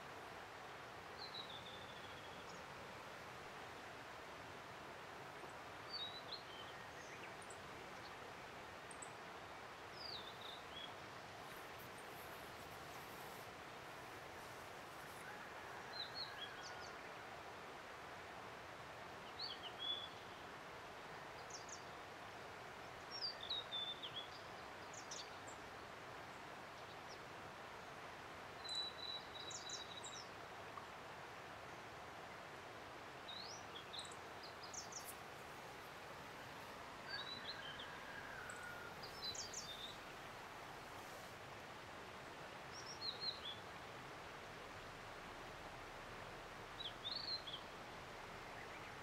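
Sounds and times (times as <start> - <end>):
running water hiss: 0.0 - 49.0.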